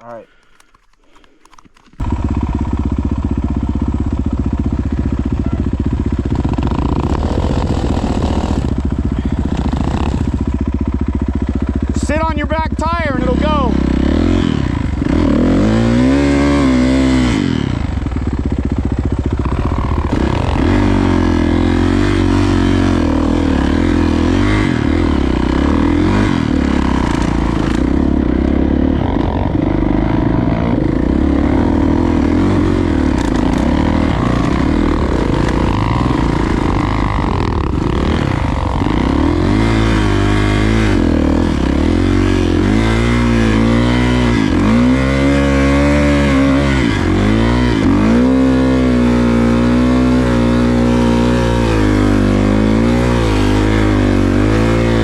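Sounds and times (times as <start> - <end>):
dirt bike engine revving: 1.6 - 55.0.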